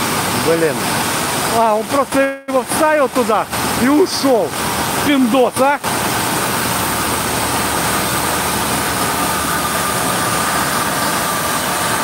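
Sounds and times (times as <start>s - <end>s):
water jet hissing: 0.0s - 12.0s.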